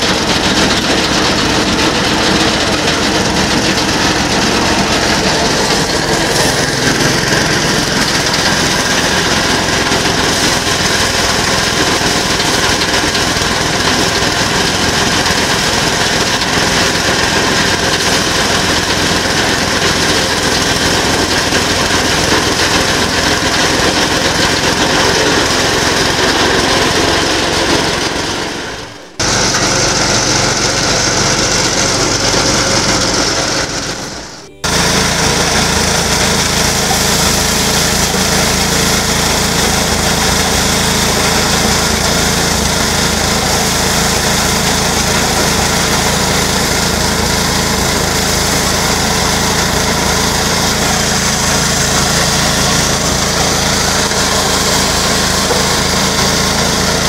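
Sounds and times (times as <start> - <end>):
threshing drum rattling: 0.0 - 34.0, 34.7 - 57.0
small petrol engine running: 0.0 - 57.0.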